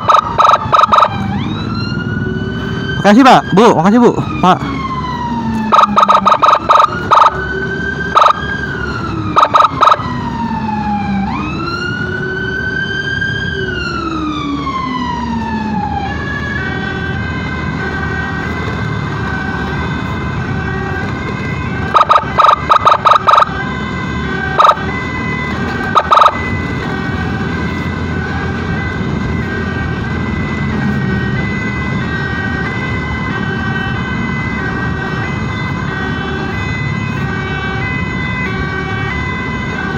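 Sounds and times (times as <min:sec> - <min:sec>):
electronic siren wailing: 0:00.0 - 0:39.9
road noise: 0:00.0 - 0:39.9.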